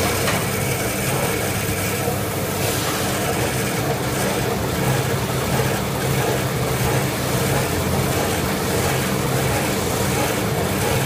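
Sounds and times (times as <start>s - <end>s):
cutting machine droning: 0.0s - 11.0s.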